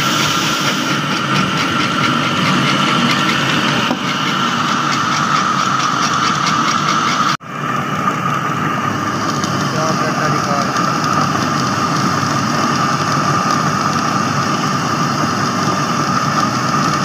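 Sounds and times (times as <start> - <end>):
flour mill humming and rattling: 0.0 - 17.0.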